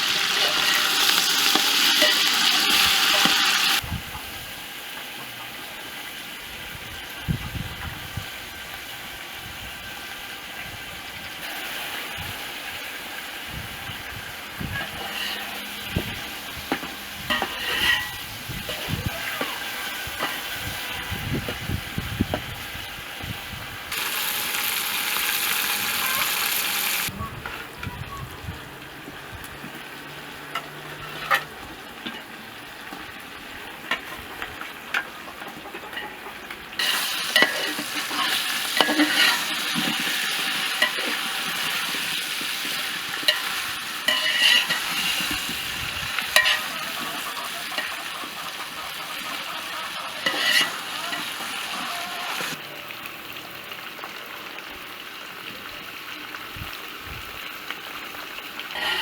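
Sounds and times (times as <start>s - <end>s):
food sizzling in hot oil: 0.0s - 27.1s, 29.5s - 59.0s.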